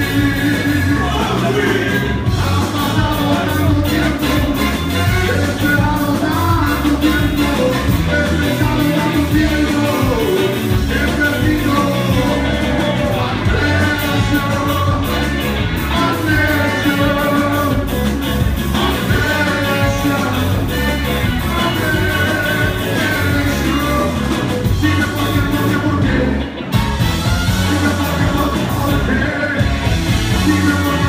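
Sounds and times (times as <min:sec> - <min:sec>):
lead singer singing: 0:00.0 - 0:31.0
live rock band playing: 0:00.0 - 0:31.0.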